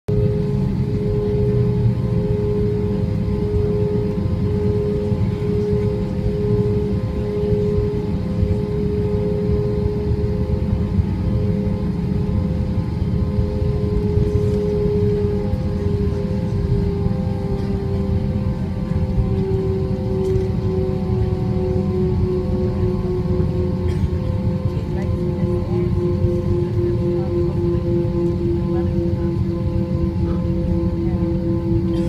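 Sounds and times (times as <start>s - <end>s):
jet engines rumbling and whining: 0.1s - 32.0s.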